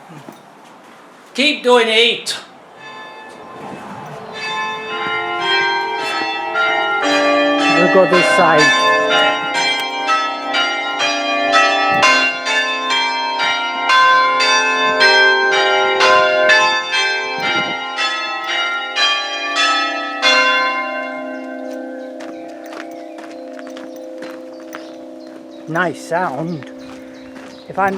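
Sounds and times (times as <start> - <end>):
church bells chiming: 2.7 - 27.9.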